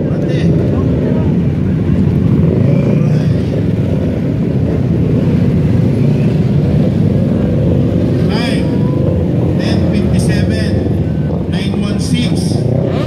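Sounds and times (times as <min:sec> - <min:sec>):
motorcycle engines passing: 0:00.0 - 0:13.0.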